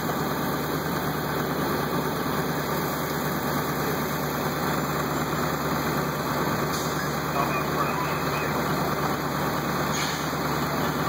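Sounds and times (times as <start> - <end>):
fire engine idling: 0.0 - 11.0.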